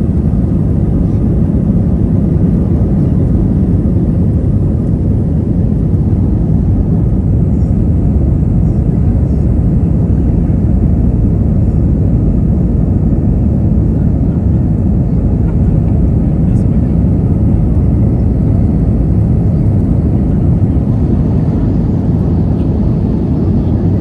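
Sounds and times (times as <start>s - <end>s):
jet engine rumble in cabin: 0.0s - 24.0s.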